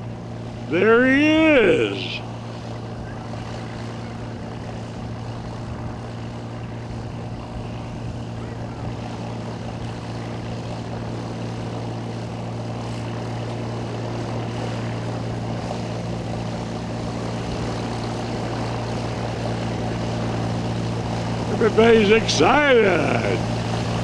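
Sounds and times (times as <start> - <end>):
propeller airplane engine droning: 0.0 - 24.0.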